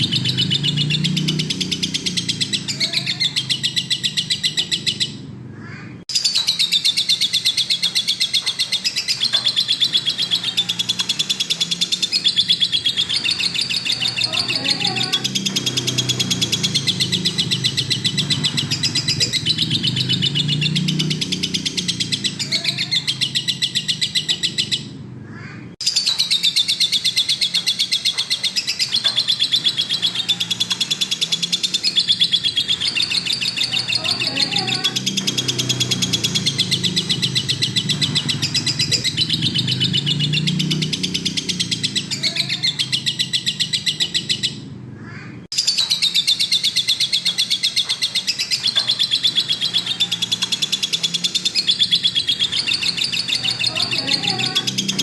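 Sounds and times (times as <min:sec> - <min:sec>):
bird shrill chirps and chatter: 0:00.0 - 0:55.0.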